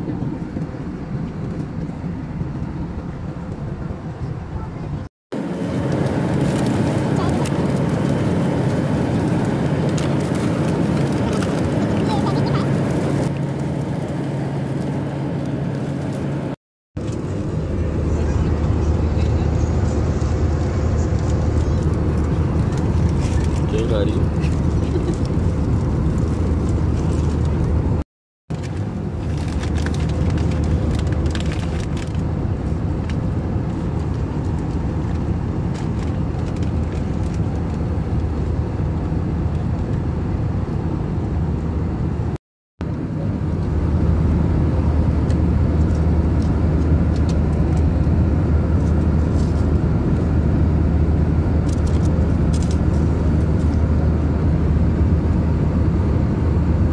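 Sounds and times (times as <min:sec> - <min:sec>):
airliner cabin roar: 0:00.0 - 0:56.9.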